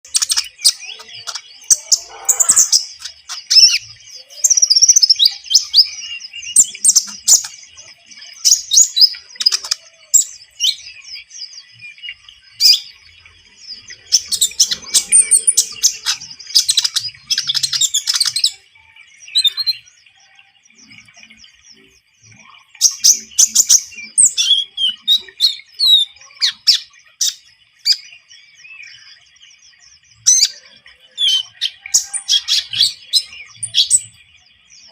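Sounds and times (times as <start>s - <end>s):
bird chirping and trilling: 0.0s - 34.9s.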